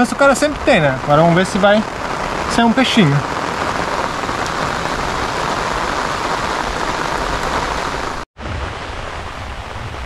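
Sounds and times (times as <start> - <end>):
rain falling on a river: 0.0 - 10.0.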